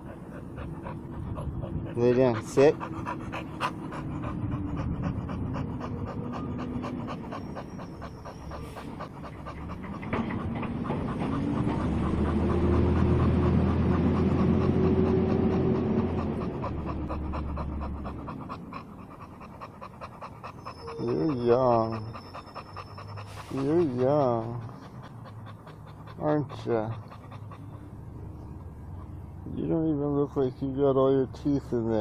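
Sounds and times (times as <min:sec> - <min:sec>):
dog panting fast: 0:00.0 - 0:32.0.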